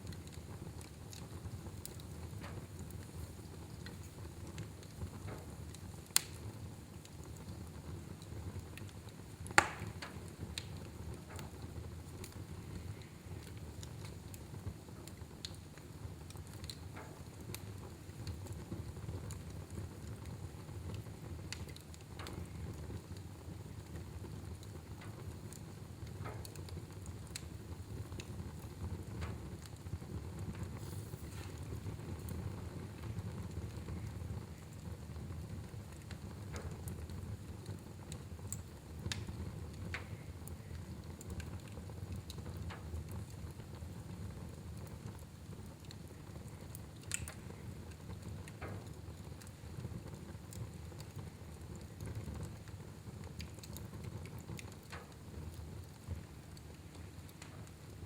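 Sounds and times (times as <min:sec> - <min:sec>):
sharp fire pops: 0:00.0 - 0:46.0, 0:47.0 - 0:58.0
fire rumbling and crackling: 0:00.0 - 0:58.0.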